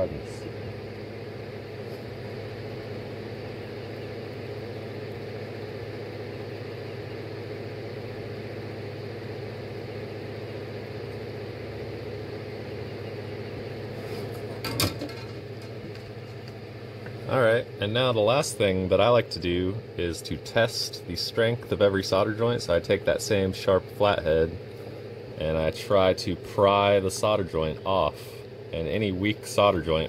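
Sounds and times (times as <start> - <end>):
electric fan humming: 0.0 - 30.0.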